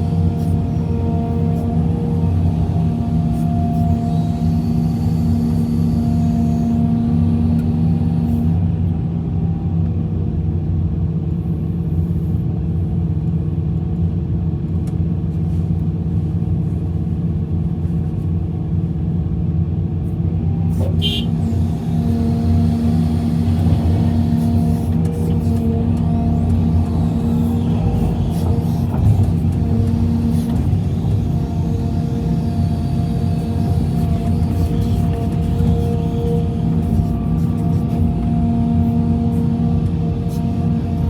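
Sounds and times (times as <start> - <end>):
excavator diesel engine running: 0.0 - 15.2, 19.7 - 41.0.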